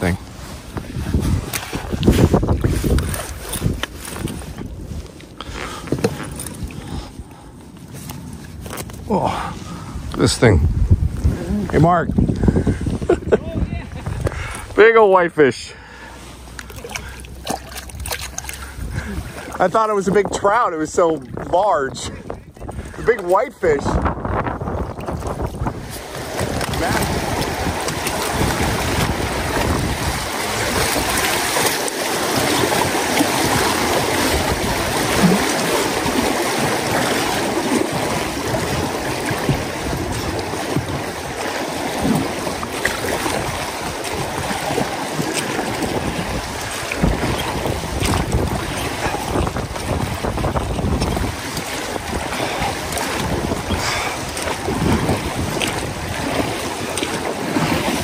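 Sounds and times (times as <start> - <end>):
wind buffeting microphone: 0.0 - 15.2, 16.4 - 58.0
river water rushing and lapping: 0.0 - 58.0.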